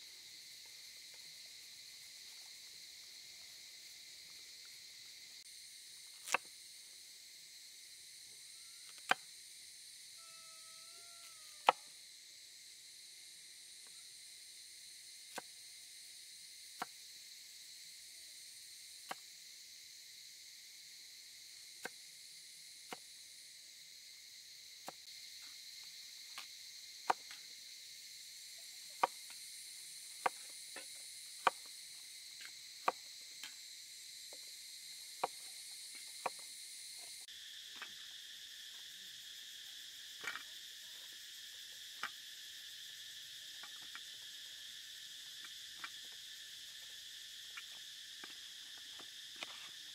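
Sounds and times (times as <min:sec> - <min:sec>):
insects chirping: 0:00.0 - 0:49.9.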